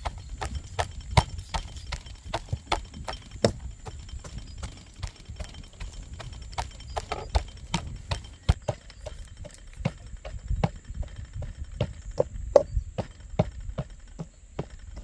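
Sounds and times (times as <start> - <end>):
wooden masher pounding in bowl: 0.0 - 15.0.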